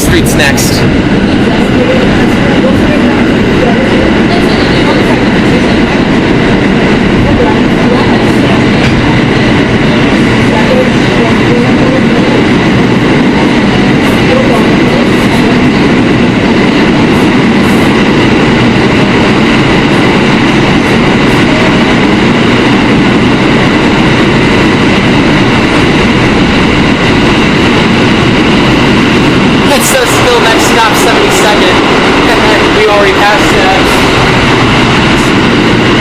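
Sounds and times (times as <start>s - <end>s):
subway wheels rumbling on rail: 0.0s - 36.0s.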